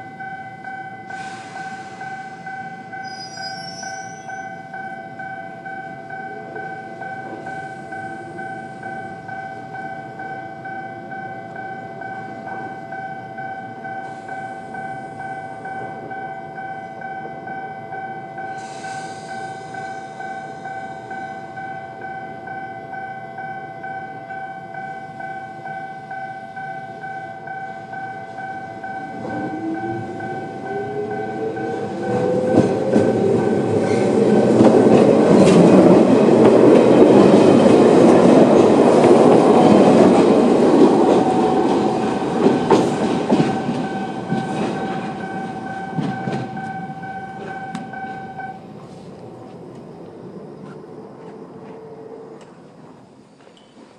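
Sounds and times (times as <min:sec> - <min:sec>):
crossing bell ringing: 0:00.0 - 0:49.0
electric train whine: 0:00.0 - 0:53.9.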